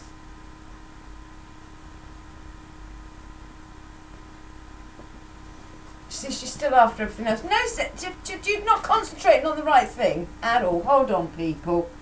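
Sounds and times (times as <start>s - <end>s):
faint electrical hum: 0.0s - 12.0s
thin steady whine: 0.0s - 12.0s.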